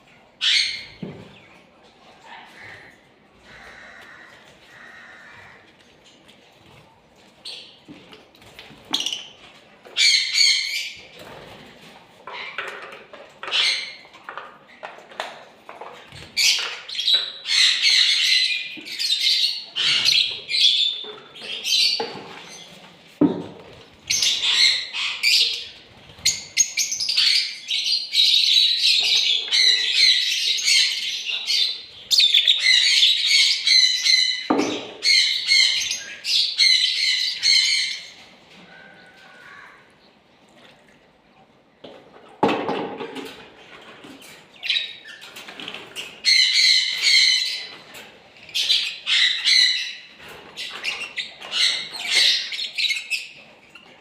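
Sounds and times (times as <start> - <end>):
bird chicks chirping and squawking: 0.0 - 40.4, 43.0 - 54.0.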